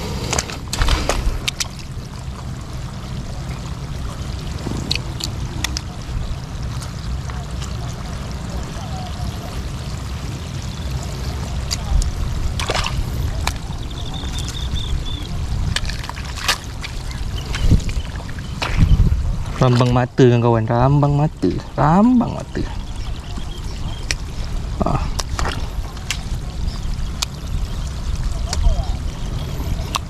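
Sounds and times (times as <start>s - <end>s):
seawater trickling and sloshing: 0.0s - 30.0s
wind rumbling on microphone: 0.0s - 30.0s.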